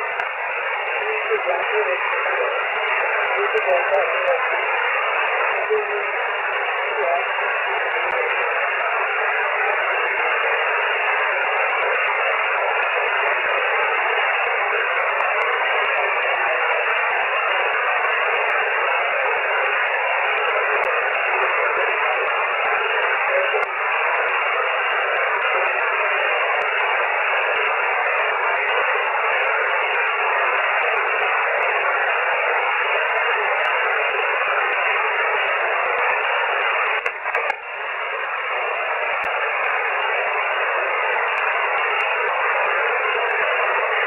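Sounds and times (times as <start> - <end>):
radio receiver hiss: 0.0 - 44.0.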